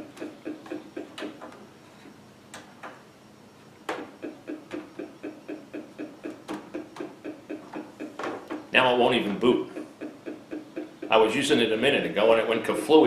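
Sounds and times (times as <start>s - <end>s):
rhythmic electronic buzzing ticks: 0.0s - 13.0s.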